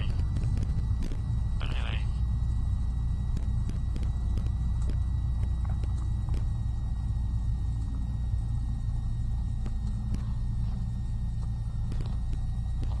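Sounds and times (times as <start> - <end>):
faint high whine: 0.0 - 13.0
propeller plane engine droning: 0.0 - 13.0.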